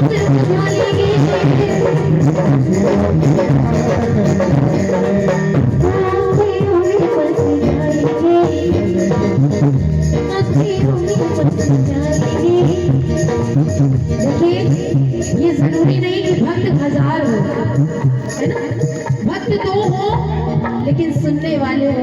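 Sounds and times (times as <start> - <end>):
devotional music with percussion: 0.0 - 21.9.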